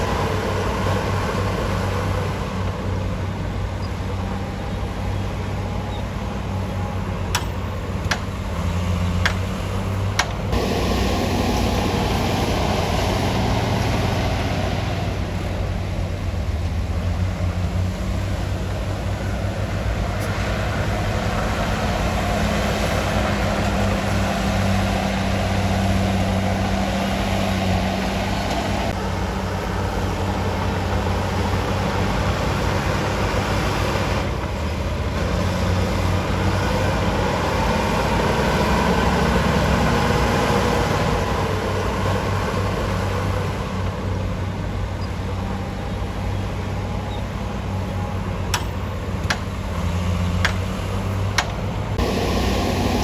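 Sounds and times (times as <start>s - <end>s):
diesel machine engine running: 0.0s - 53.0s.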